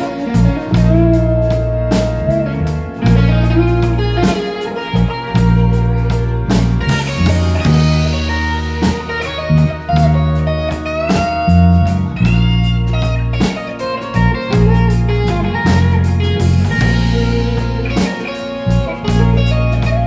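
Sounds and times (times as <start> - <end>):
bass guitar: 0.0 - 20.0
drums: 0.0 - 20.0
electric guitar lead: 0.0 - 20.0.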